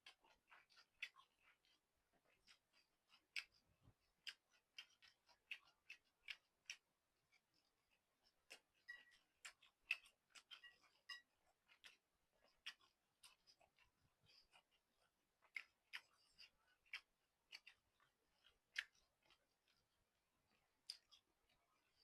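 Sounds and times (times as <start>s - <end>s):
chewing and mouth sounds: 0.0s - 22.0s.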